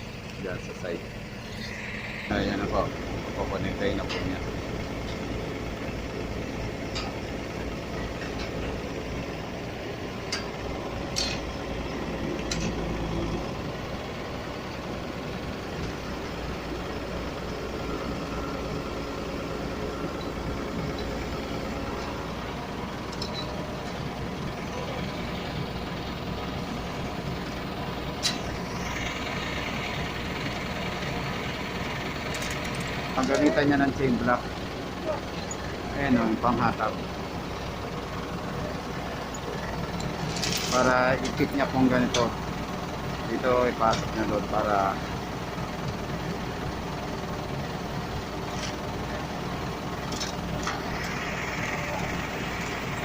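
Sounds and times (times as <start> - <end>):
backhoe engine running: 0.0 - 53.0.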